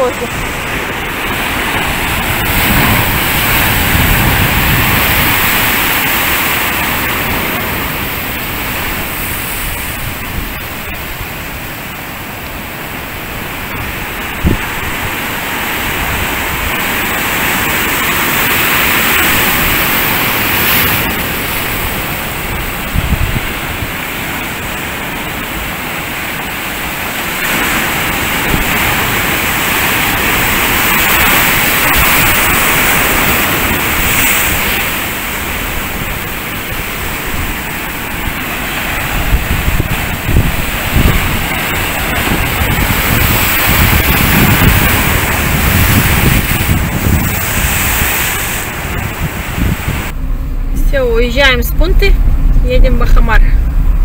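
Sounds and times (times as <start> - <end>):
surf breaking over rocks: 0.0 - 54.0.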